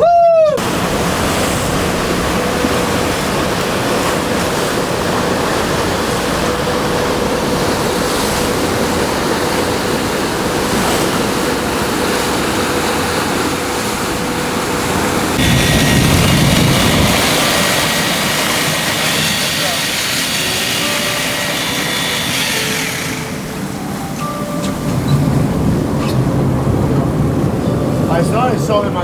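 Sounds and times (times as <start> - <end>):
sea water rushing: 0.0 - 29.0
wind: 0.0 - 29.0.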